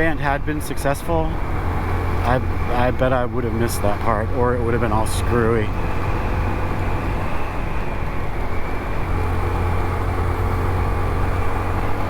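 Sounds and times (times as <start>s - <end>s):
riding noise: 0.0s - 12.0s.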